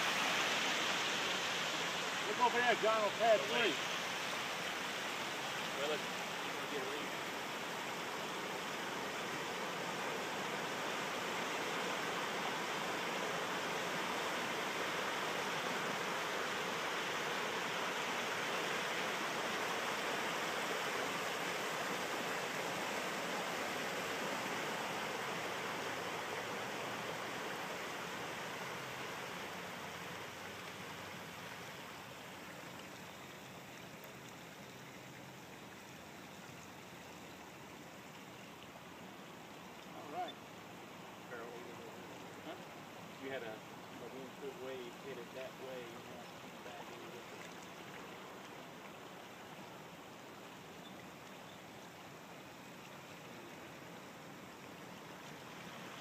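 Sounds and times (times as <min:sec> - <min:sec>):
muddy water churning and flowing: 0:00.0 - 0:56.0.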